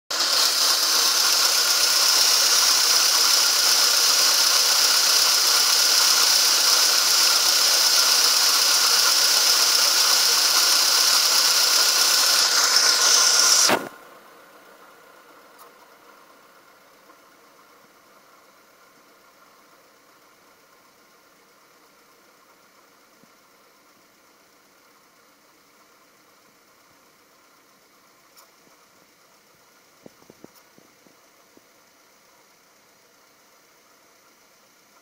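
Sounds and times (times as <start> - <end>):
car engine running: 0.1 - 35.0
loud steady hissing: 0.1 - 35.0.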